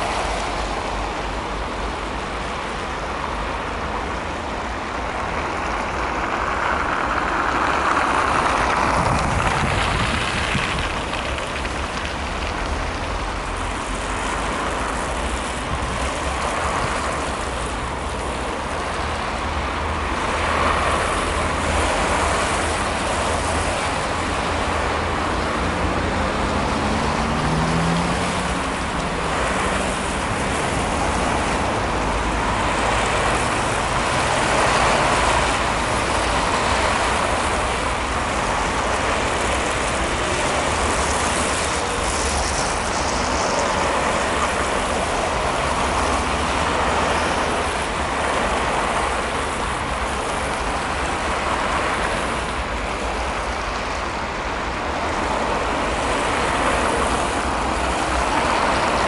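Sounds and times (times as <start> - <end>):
city road traffic: 0.0 - 59.0.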